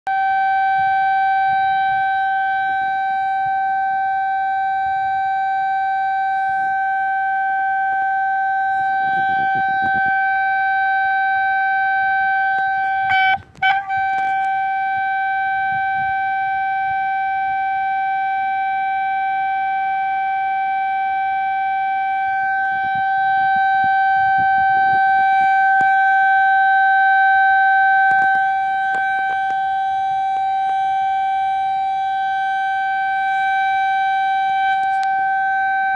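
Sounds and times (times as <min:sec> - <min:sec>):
call box alarm tone: 0:00.1 - 0:35.9.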